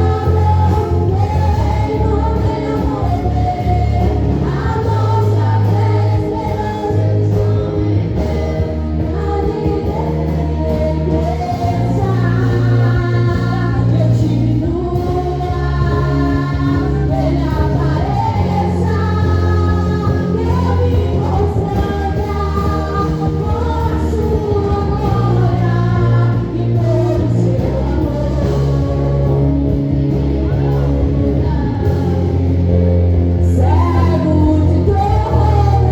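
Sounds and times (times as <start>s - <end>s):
bass and keyboard chords: 0.0s - 35.9s
voices singing a praise song: 0.0s - 35.9s.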